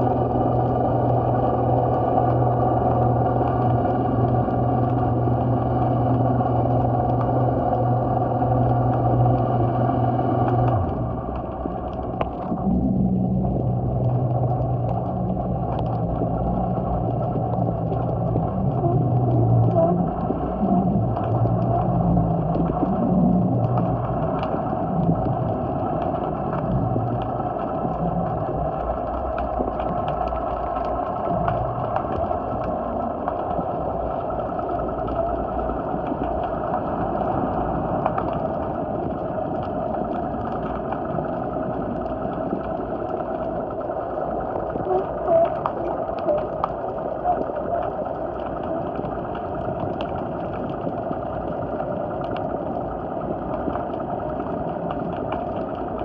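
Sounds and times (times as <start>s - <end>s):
underwater drone: 0.0s - 56.0s
faint ticks: 0.1s - 56.0s.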